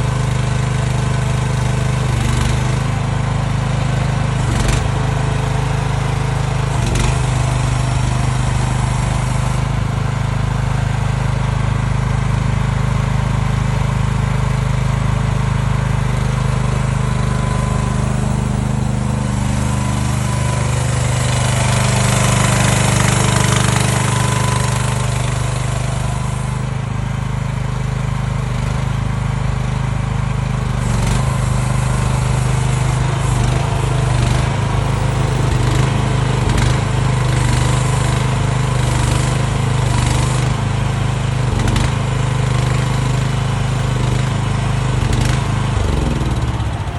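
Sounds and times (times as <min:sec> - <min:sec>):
small gas engine running: 0:00.0 - 0:46.9.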